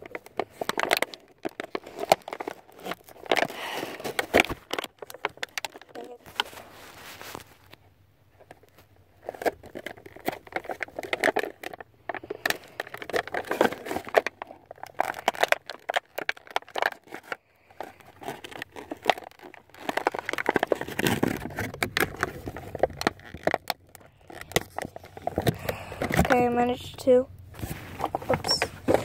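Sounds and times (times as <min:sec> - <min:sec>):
packaging crinkling and crackling: 0:00.0 - 0:29.0.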